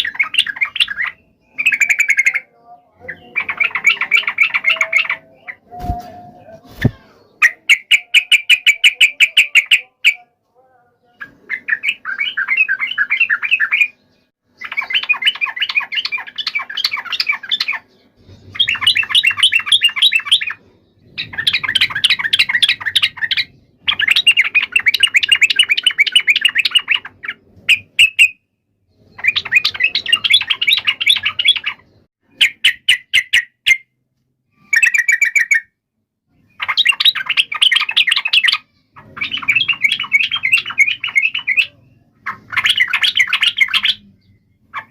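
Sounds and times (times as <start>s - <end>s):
bird rapid chattering song: 0.0s - 10.3s, 11.0s - 33.9s, 34.5s - 35.7s, 36.3s - 44.9s.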